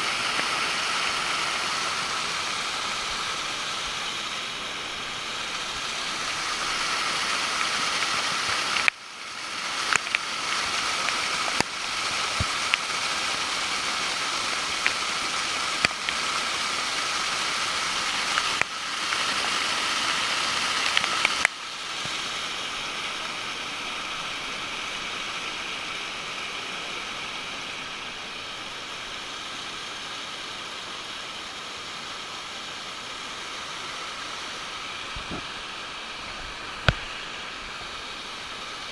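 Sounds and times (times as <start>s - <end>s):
waterfall water rushing: 0.0s - 38.9s.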